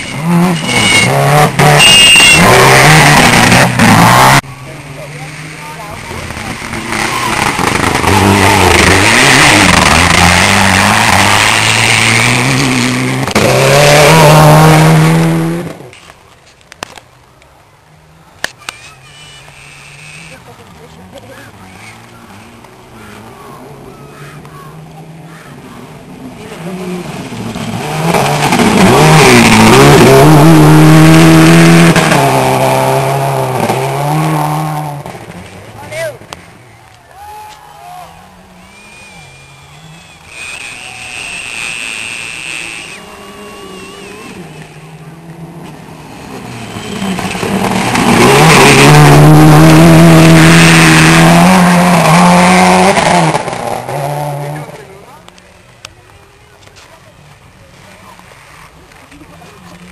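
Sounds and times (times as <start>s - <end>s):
rally car engine at full throttle: 0.0s - 16.0s, 20.0s - 36.7s, 38.3s - 55.8s.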